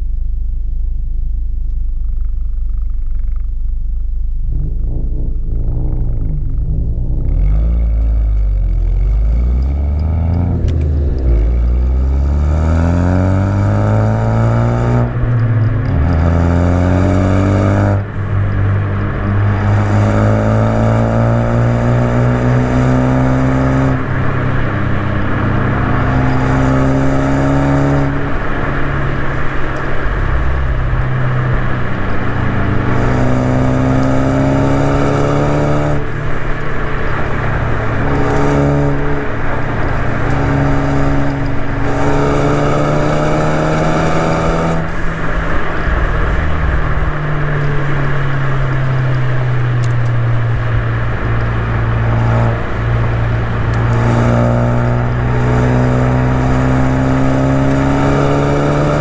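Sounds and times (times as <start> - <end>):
car engine accelerating hard: 0.8 - 59.0.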